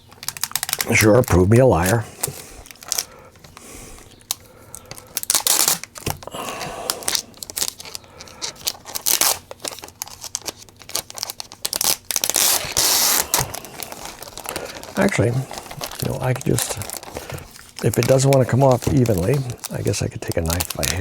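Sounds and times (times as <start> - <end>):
plastic film peeling crackle: 0.0 - 21.0.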